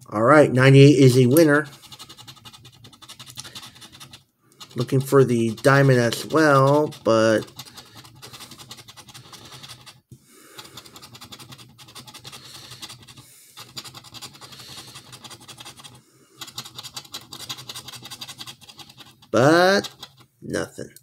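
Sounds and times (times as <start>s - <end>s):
scratch card being scraped: 1.2s - 20.3s.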